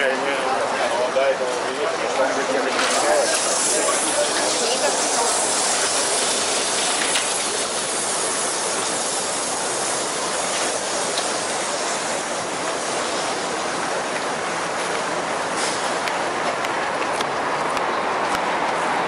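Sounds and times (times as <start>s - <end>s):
traffic hiss: 0.0s - 19.0s.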